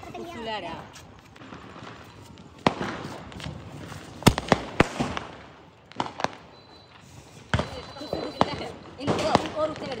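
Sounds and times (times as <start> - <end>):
firecrackers and fireworks banging: 0.0 - 10.0.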